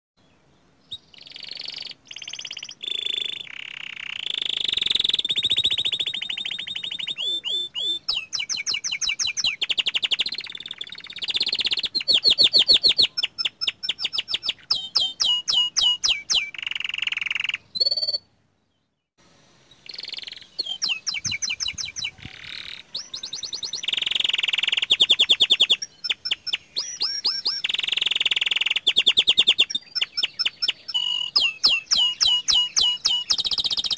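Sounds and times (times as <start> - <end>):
canary singing trills: 0.2 - 19.1, 19.7 - 33.9.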